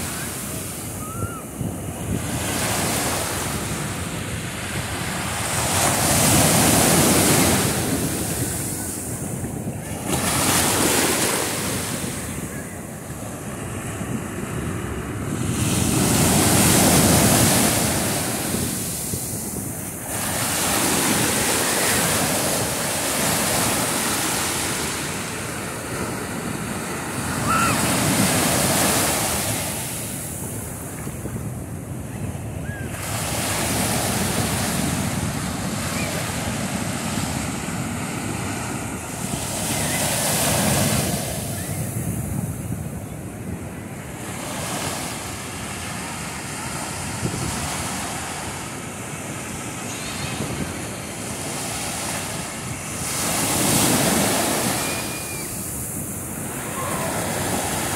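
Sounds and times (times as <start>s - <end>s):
ocean surf breaking: 0.0s - 57.9s.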